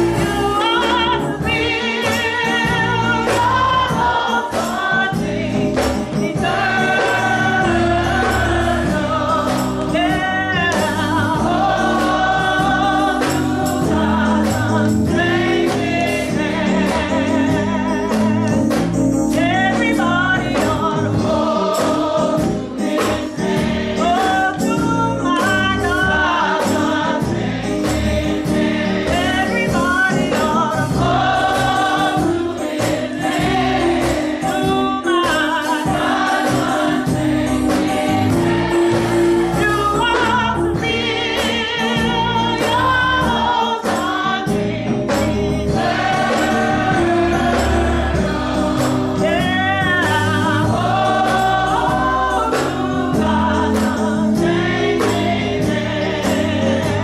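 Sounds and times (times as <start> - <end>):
drums keeping a beat: 0.0 - 57.0
gospel choir singing: 0.0 - 57.0.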